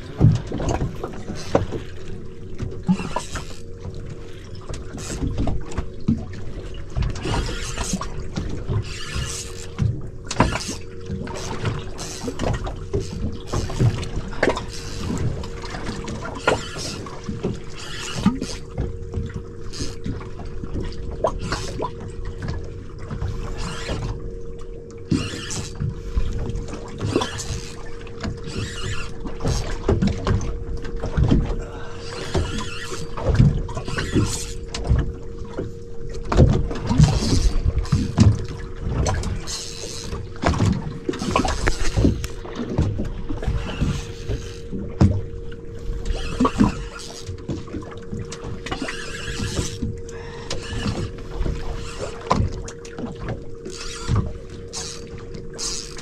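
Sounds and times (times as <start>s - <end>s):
steady low hum: 0.0s - 56.0s
water splashing against boat hull: 0.0s - 56.0s.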